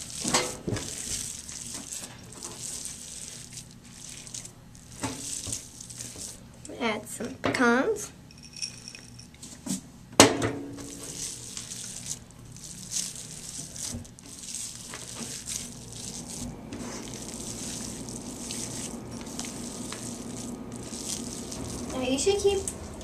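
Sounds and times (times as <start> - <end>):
hands kneading sticky mixture: 0.0 - 7.0, 10.8 - 23.0.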